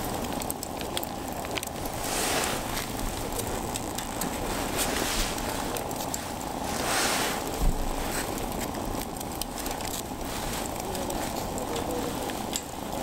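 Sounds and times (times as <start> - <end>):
fire crackling: 0.0 - 13.0
steady outdoor rumble: 0.0 - 13.0.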